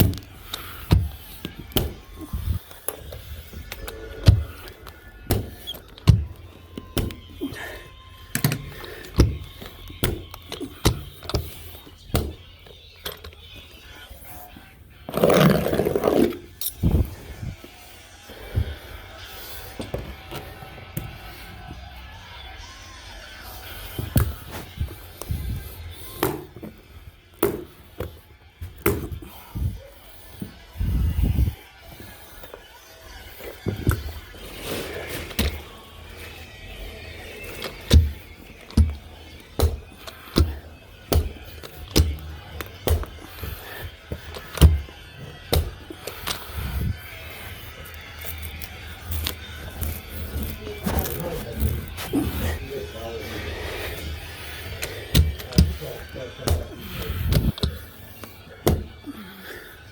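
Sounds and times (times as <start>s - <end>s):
background music: 0.0s - 59.9s.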